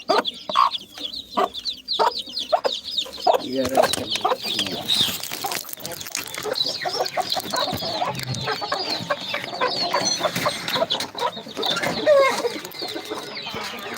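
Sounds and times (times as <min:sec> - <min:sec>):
flock of birds calling: 0:00.0 - 0:13.9.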